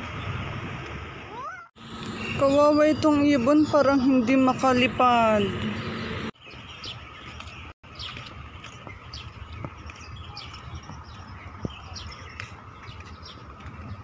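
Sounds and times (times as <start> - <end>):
small birds chirping: 1.3 - 14.0.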